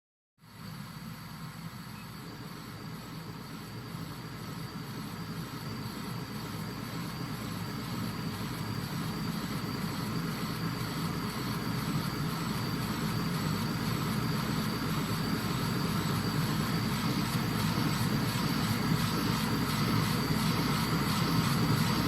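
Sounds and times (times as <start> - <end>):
laser engraver whirring: 0.5 - 22.0.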